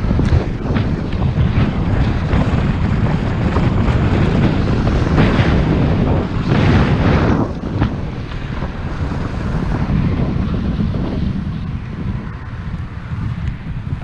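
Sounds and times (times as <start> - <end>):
rumble of tyres and engine: 0.0 - 14.0
wind buffeting microphone: 0.0 - 14.0.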